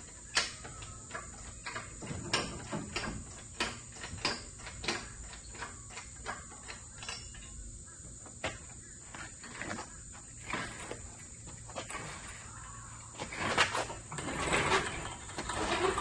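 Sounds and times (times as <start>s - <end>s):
hydraulic hoist pump clanking: 0.0s - 7.6s, 8.4s - 16.0s.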